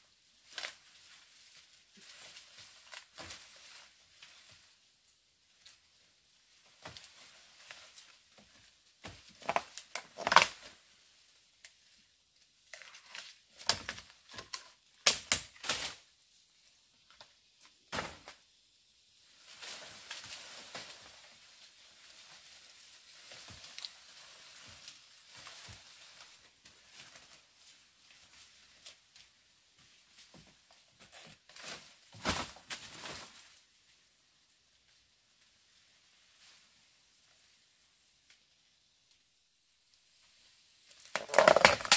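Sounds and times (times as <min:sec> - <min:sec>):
rustling and crackling: 0:00.0 - 0:18.6, 0:19.2 - 0:39.3, 0:40.1 - 0:41.9.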